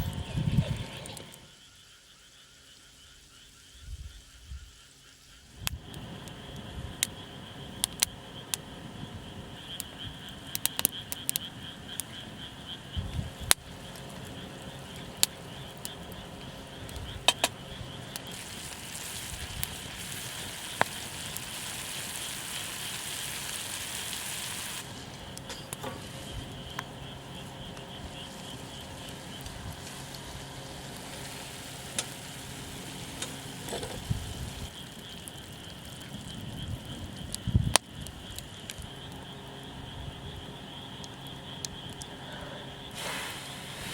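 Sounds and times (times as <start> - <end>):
steady hiss: 0.0 - 43.9
campfire crackling and popping: 5.6 - 42.1.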